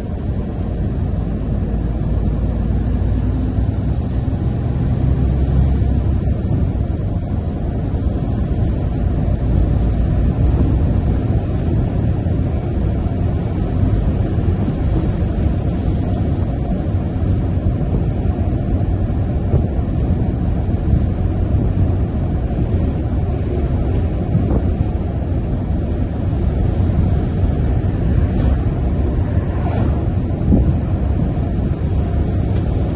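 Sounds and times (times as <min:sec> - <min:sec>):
truck diesel engine cruising: 0:00.0 - 0:32.9
tyre road noise: 0:00.0 - 0:32.9.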